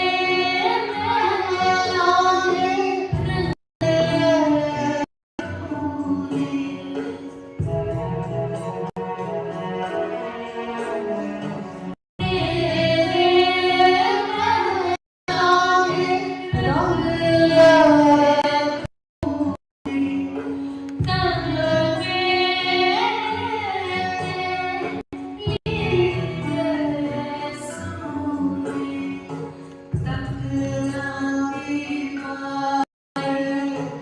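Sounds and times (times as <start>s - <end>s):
woman singing: 0.0s - 7.2s, 12.2s - 20.4s, 21.0s - 34.0s.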